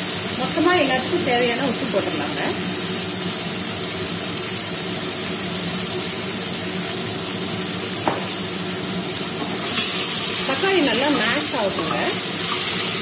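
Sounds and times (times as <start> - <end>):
onions frying in oil: 0.0 - 13.0.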